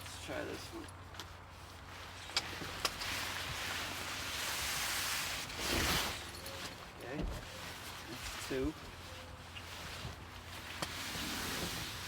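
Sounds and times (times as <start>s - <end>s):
fabric and poles rustling: 0.0s - 12.0s.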